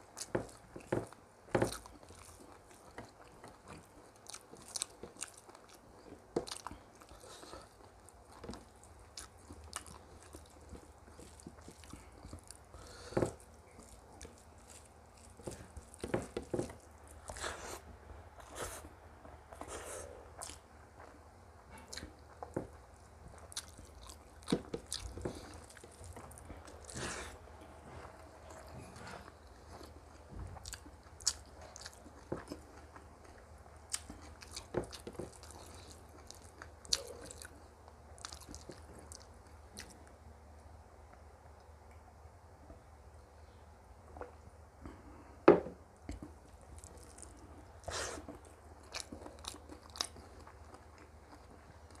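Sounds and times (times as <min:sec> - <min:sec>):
person chewing food: 0:00.0 - 0:40.2, 0:45.9 - 0:52.0.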